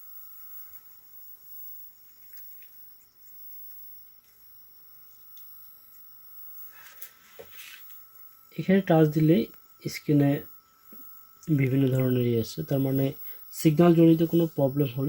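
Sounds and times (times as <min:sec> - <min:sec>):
high-pitched electronic whine: 0:00.0 - 0:15.0.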